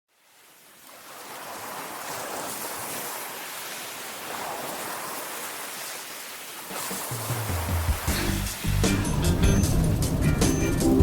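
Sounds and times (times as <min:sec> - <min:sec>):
sea waves washing on shore: 0:00.1 - 0:10.9.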